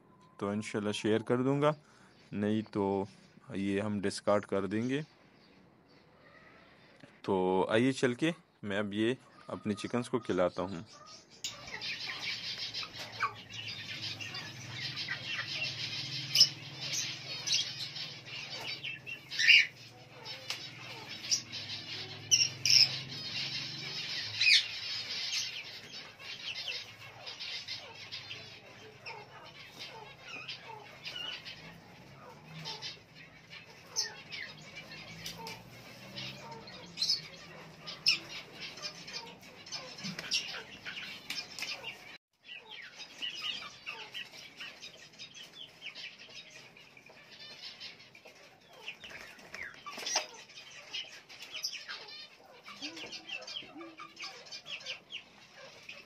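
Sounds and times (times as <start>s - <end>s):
birds chirping and calling: 0.0s - 56.0s
bird squawks: 10.8s - 56.0s.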